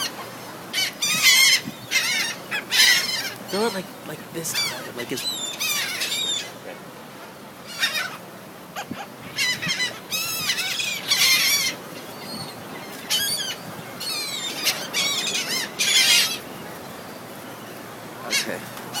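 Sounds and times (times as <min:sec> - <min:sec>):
birds calling high-pitched notes: 0:00.0 - 0:06.6, 0:07.6 - 0:19.0.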